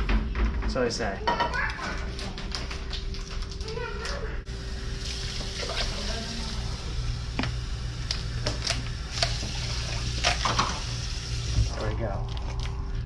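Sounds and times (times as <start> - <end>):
appliance hum: 0.0 - 13.0.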